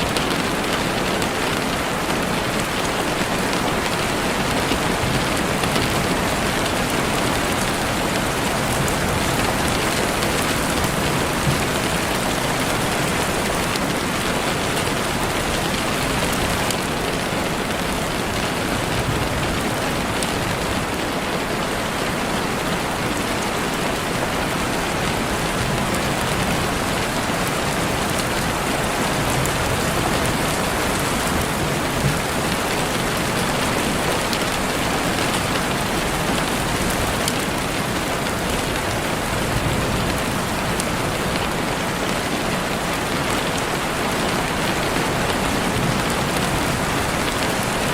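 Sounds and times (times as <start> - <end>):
heavy rain on leaves: 0.0 - 47.9.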